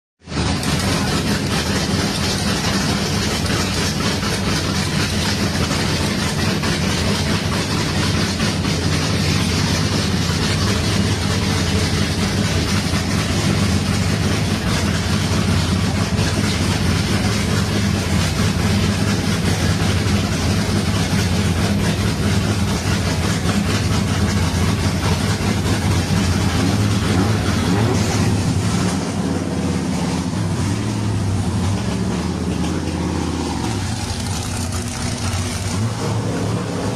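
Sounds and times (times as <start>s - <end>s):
engine idling with deep rumble: 0.2s - 36.9s.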